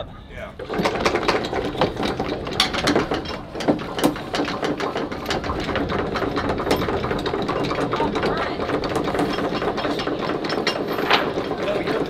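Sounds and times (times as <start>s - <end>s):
windlass motor hum: 0.0s - 12.0s
anchor chain clanking: 0.6s - 12.0s.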